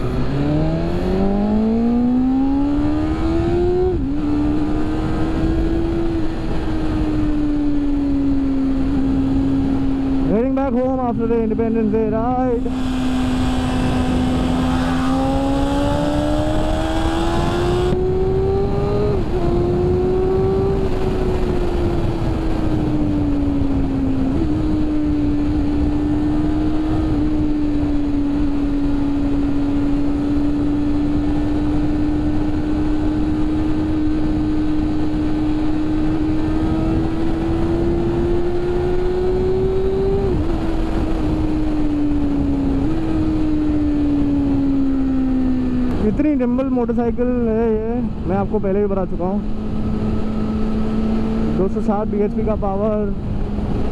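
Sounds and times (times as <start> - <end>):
motorcycle engine cruising: 0.0 - 53.9
wind rush on microphone: 0.0 - 53.9.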